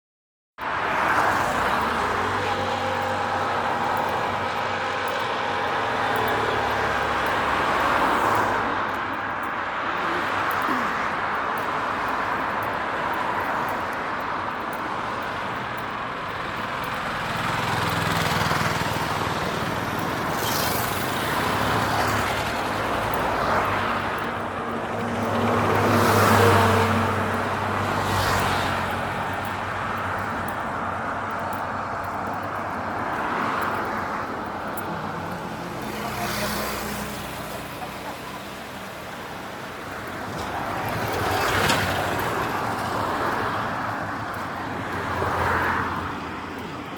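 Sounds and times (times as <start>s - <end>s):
cars passing: 0.6s - 46.9s
traffic hum: 0.6s - 46.9s.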